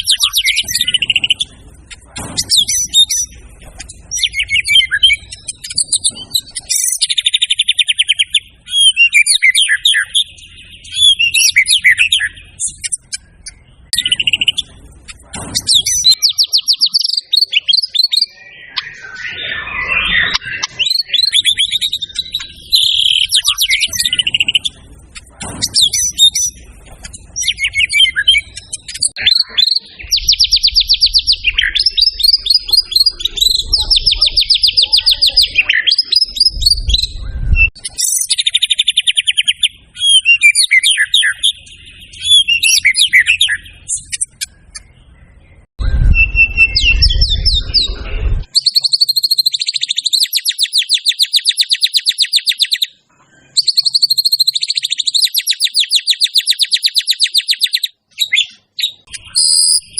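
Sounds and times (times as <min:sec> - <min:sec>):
bird singing trills and rattles: 0:00.0 - 0:59.9.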